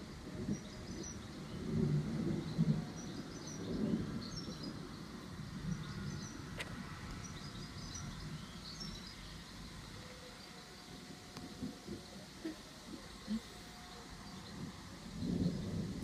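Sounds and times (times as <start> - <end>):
small birds chirping: 0.0 - 16.0
wind buffeting microphone: 0.0 - 16.0.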